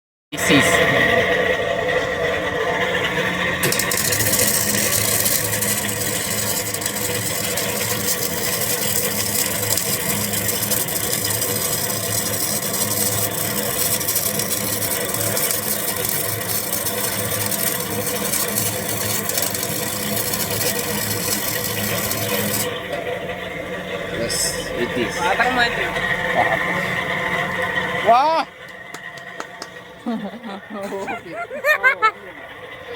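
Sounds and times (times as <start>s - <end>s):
welder electrical hum: 0.3s - 32.9s
welding arc crackling: 2.9s - 29.9s.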